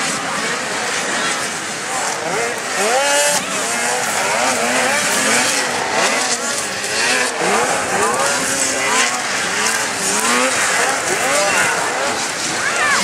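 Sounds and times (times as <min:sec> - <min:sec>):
snowmobile engines revving: 0:00.0 - 0:13.0.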